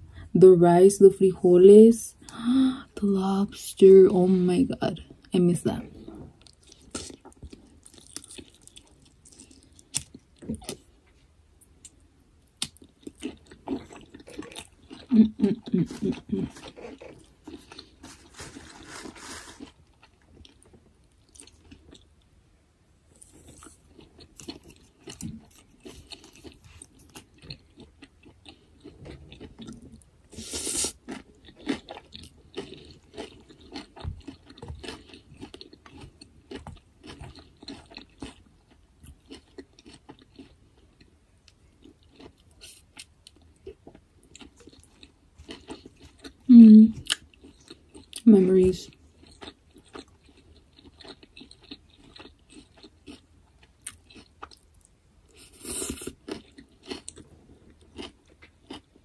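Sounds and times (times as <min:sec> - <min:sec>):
person chewing crunchy food: 0:05.9 - 0:22.4, 0:23.1 - 0:59.0.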